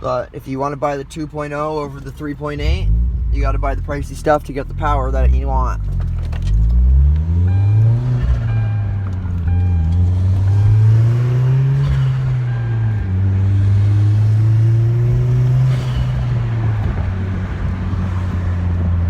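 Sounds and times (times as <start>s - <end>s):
turbocharged car engine revving: 2.5s - 19.0s.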